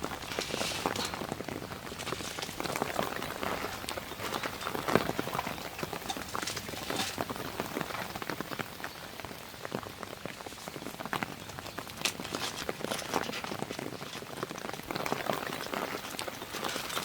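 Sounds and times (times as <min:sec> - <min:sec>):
rain striking a surface: 0:00.0 - 0:17.0.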